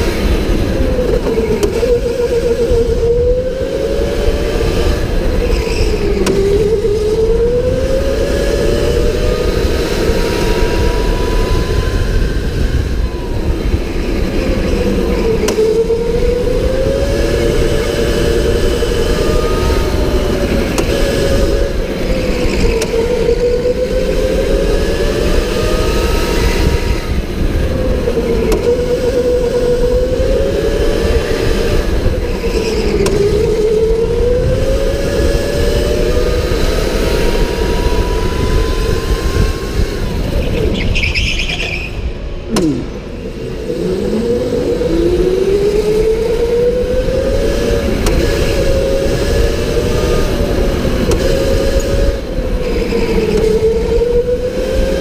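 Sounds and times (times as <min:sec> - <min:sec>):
low rumble of tyres: 0:00.0 - 0:55.0.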